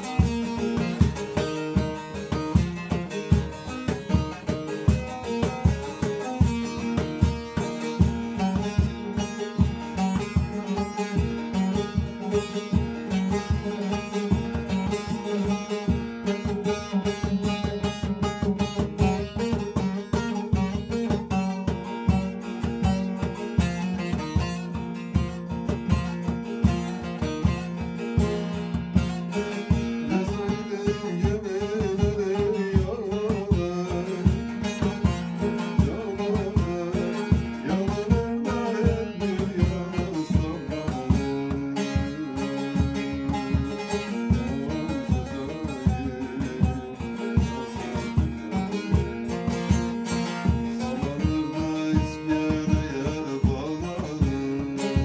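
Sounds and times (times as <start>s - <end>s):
plucked string instrument folk song: 0.0s - 55.0s.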